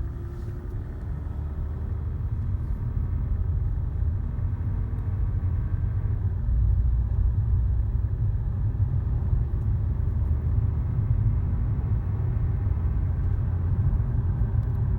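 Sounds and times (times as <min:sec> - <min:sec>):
car interior rumble: 0:00.0 - 0:14.9.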